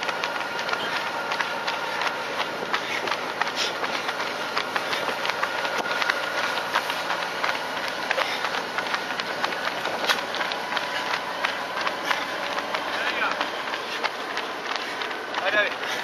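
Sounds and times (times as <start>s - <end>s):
runners' footfalls on asphalt: 0.0s - 16.0s.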